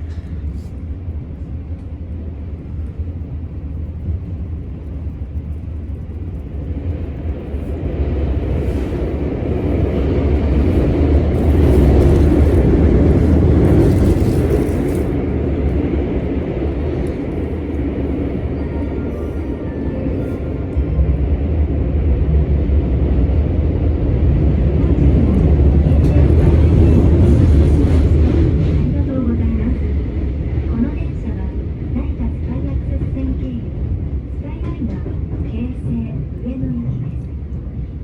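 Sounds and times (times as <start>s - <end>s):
train running rumble: 0.0s - 38.0s.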